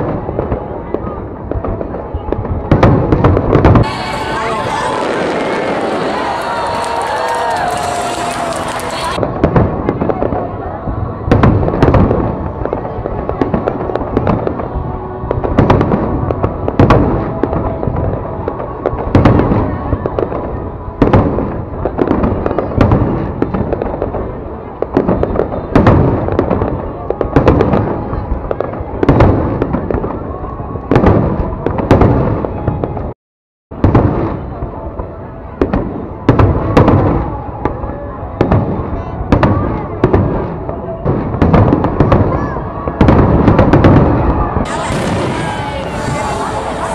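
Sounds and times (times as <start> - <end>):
fireworks bangs: 0.0 - 33.2, 33.8 - 46.9.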